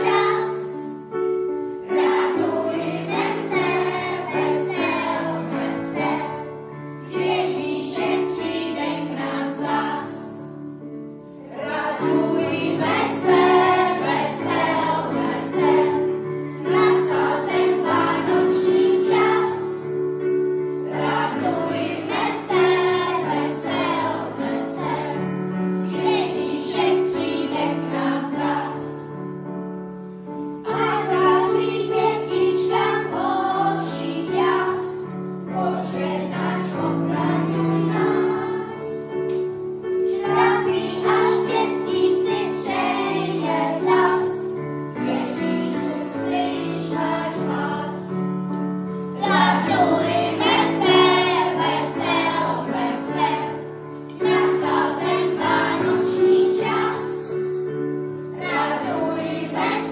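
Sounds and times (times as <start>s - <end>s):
children's choir singing a carol: 0.0s - 59.9s.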